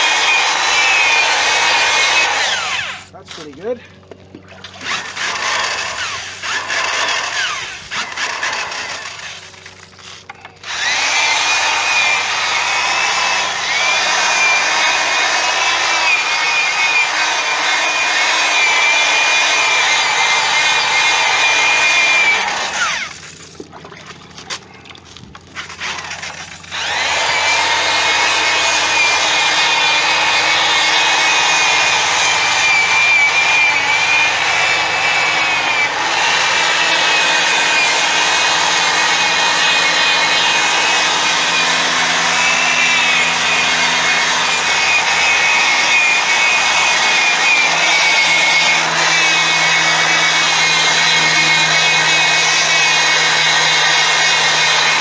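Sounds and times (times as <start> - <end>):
drill whining with polishing pad: 0.0 - 3.7, 4.8 - 23.2, 25.7 - 55.0.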